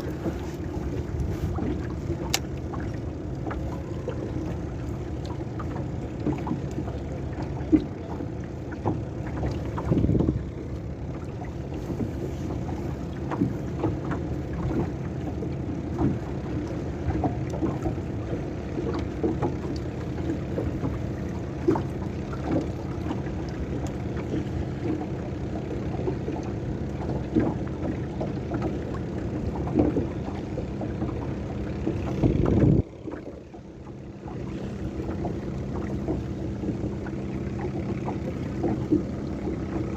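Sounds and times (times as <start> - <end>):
boat engine rumble: 0.0 - 39.9
knocks against hull: 5.2 - 10.5, 11.1 - 33.4, 34.4 - 39.9.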